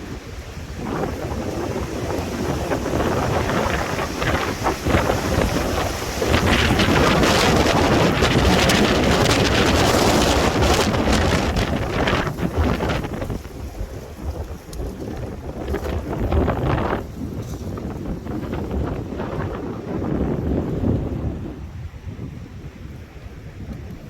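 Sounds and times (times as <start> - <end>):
wind gusts buffeting microphone: 0.0 - 24.0.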